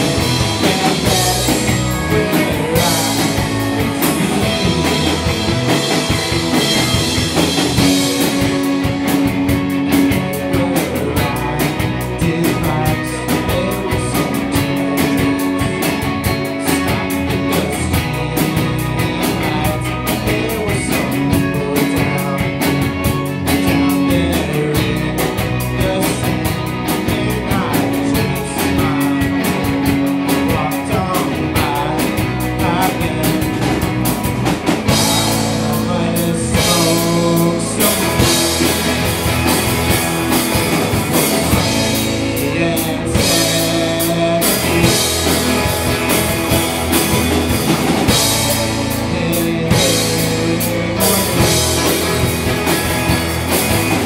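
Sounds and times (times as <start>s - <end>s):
person singing: 0.0s - 53.0s
bass guitar: 0.0s - 54.0s
drum kit: 0.0s - 54.0s
electric guitar: 0.0s - 54.0s.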